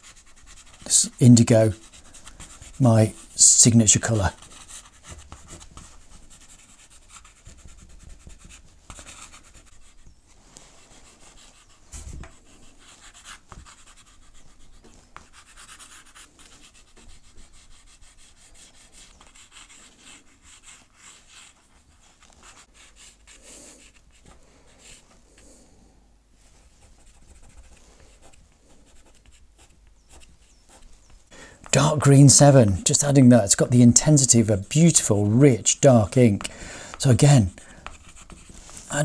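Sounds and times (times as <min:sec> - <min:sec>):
pastel stick scratching on paper: 0:00.0 - 0:25.5, 0:26.5 - 0:32.5, 0:33.8 - 0:39.0.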